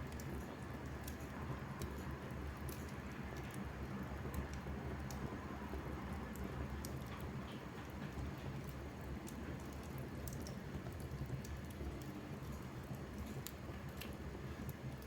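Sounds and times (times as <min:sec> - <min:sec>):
fire crackles and pops: 0:00.0 - 0:15.0
fire low rumble: 0:00.0 - 0:15.0.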